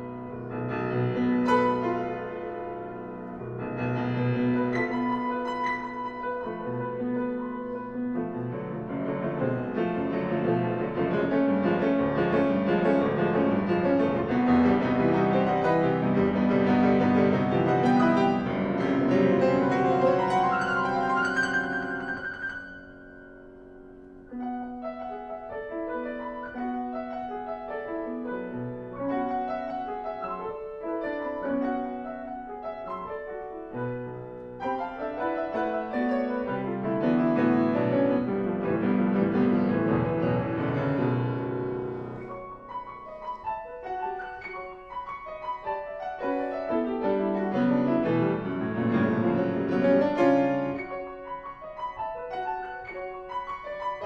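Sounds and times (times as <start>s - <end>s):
grand piano playing classical piece: 0.0s - 54.0s.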